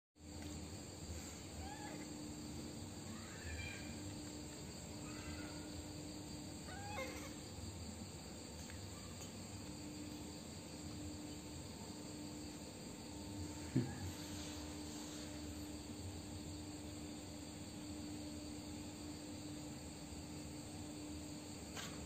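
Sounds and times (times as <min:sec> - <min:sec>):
insects chirring: 0:00.2 - 0:22.0.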